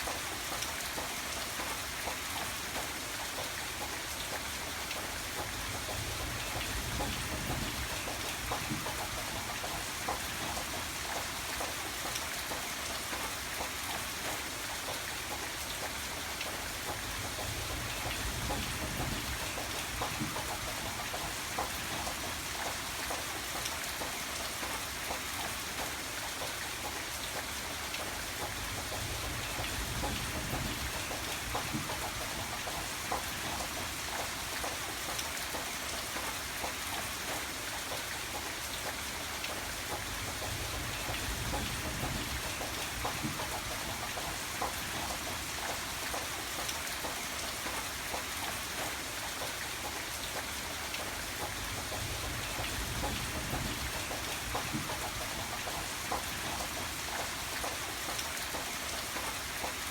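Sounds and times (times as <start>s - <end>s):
heavy rain: 0.0s - 59.9s
raindrops ticking on a surface: 0.0s - 59.9s.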